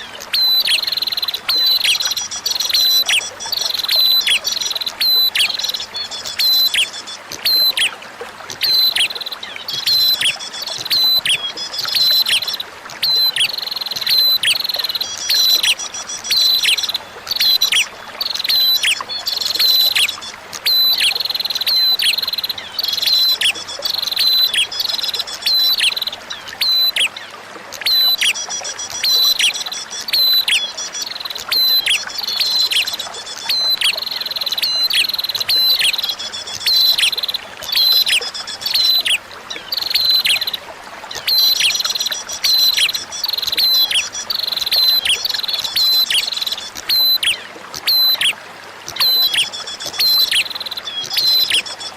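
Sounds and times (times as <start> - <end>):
flowing water trickling: 0.0 - 51.9.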